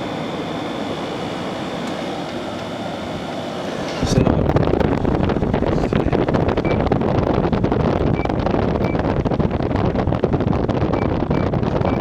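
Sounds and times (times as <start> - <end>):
window air conditioner fan blowing: 0.0 - 12.0.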